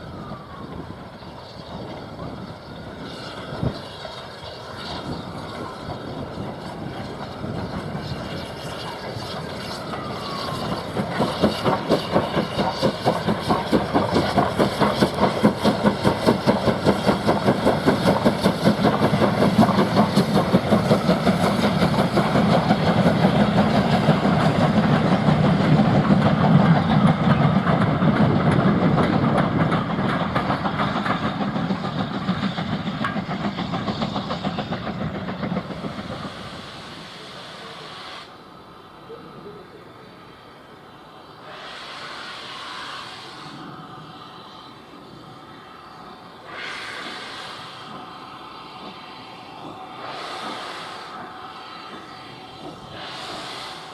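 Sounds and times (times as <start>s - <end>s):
train wheels rolling: 0.0s - 38.6s, 40.5s - 53.9s
steam locomotive exhaust beats: 0.0s - 53.9s.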